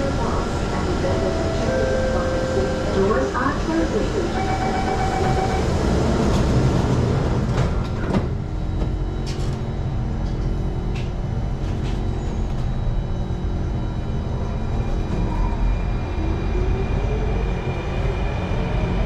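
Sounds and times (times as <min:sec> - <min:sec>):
train rumble with motor tone: 0:00.0 - 0:19.0.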